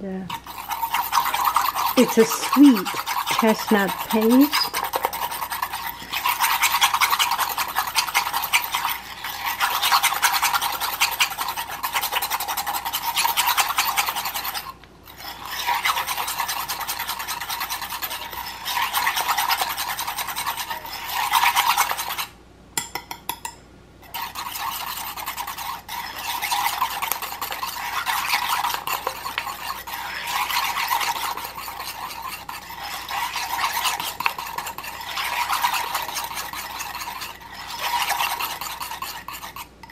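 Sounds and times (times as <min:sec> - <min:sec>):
whisk scraping a bowl: 0:00.1 - 0:22.4, 0:24.0 - 0:39.9.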